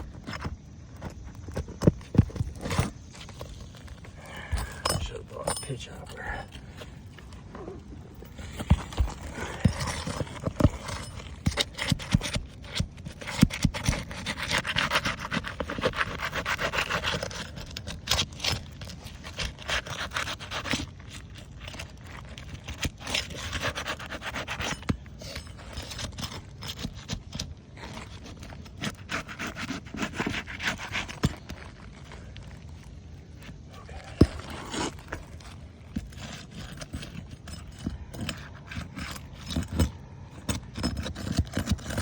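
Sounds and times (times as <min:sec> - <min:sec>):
tool rasping under shingles: 0:00.0 - 0:42.0.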